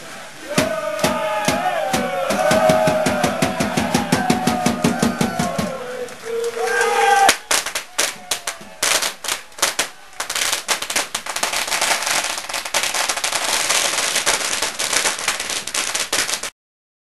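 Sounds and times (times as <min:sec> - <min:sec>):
firecrackers popping: 0:00.5 - 0:06.6, 0:07.2 - 0:16.6.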